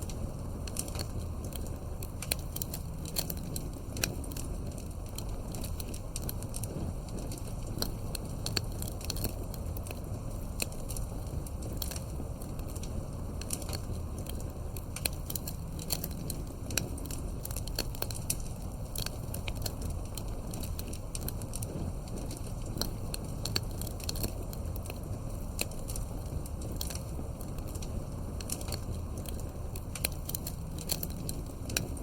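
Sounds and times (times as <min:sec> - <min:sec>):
campfire crackling: 0:00.0 - 0:32.0
fire pops and snaps: 0:00.0 - 0:32.0.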